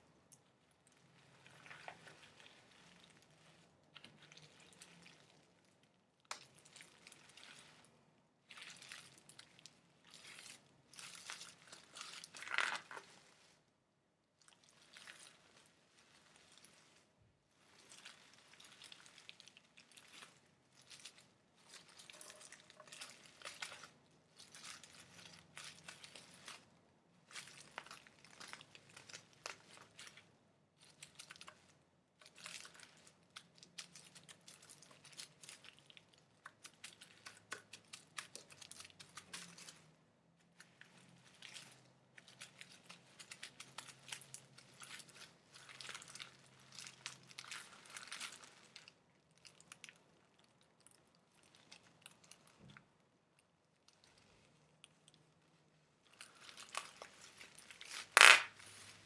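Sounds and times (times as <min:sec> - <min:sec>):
hands crinkling material: 0:00.0 - 0:59.0.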